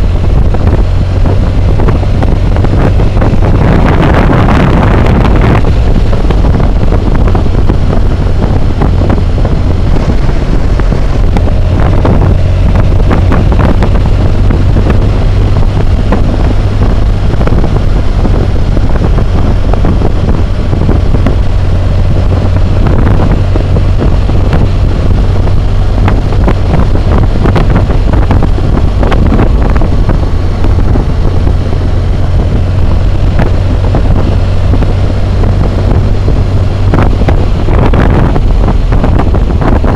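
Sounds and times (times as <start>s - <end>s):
motorcycle engine running: 0.0s - 39.9s
wind roar on microphone: 0.0s - 39.9s.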